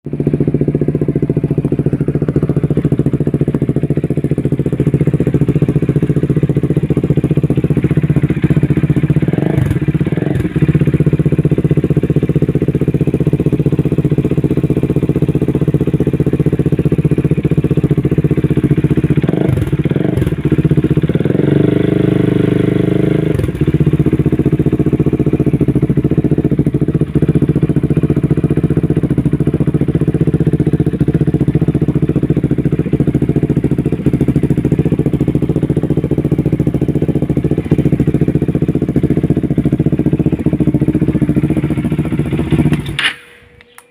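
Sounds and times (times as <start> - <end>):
engine throttle blips and revs: 0.1 - 43.9
motorcycle engine idling: 0.1 - 43.9.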